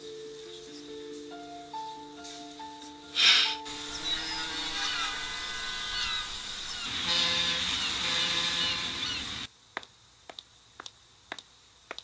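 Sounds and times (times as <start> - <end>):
steady hiss and low hum: 0.0 - 12.0.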